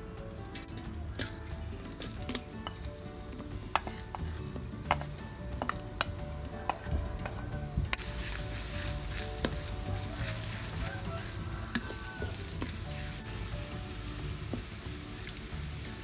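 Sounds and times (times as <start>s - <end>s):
spatula scraping wok: 0.6s - 16.0s
shallots sizzling in hot oil: 1.1s - 16.0s.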